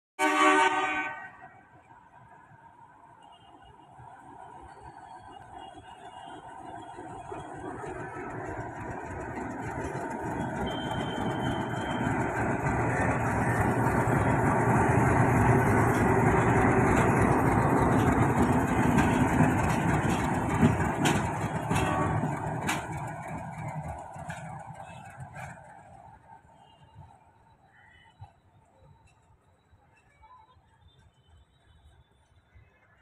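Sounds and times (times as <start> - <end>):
diesel locomotive engine passing: 0.2 - 29.8.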